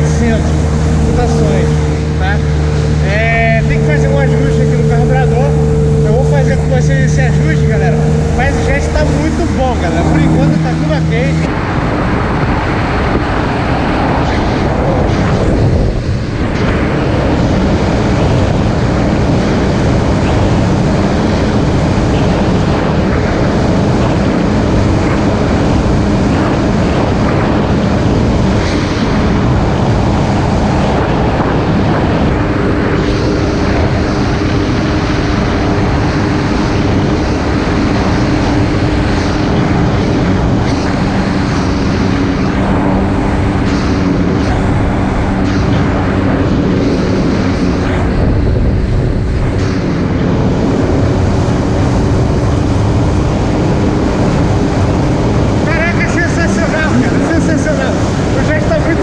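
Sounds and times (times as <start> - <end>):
jet ski engine drone: 0.0 - 59.0
loud rush of noise: 0.0 - 59.0.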